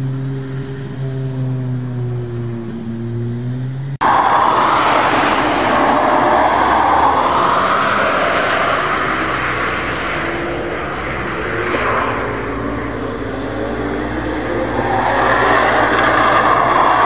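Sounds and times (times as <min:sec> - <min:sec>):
car engine roaring: 0:00.0 - 0:17.0.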